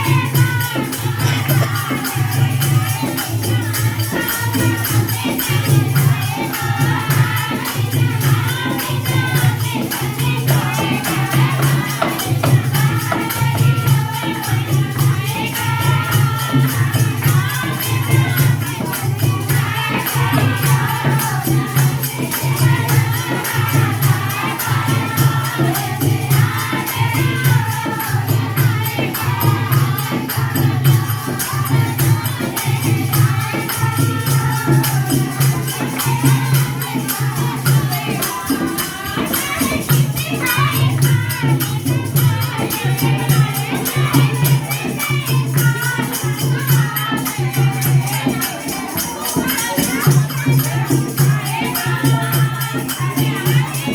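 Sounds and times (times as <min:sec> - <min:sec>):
devotional singing: 0:00.0 - 0:53.9
jingling percussion: 0:00.0 - 0:53.9.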